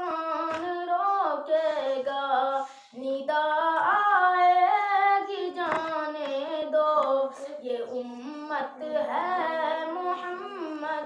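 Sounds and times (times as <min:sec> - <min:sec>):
boys singing: 0:00.0 - 0:11.0.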